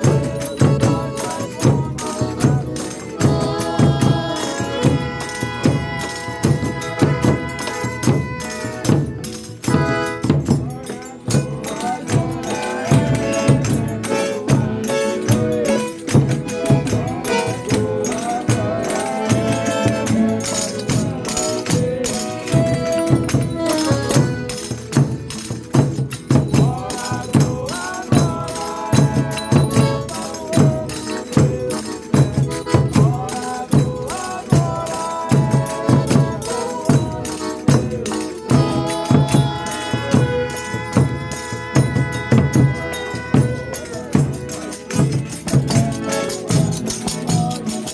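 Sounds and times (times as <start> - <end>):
tambourine rhythm: 0.0 - 47.9
voices singing devotional chant: 0.0 - 47.9.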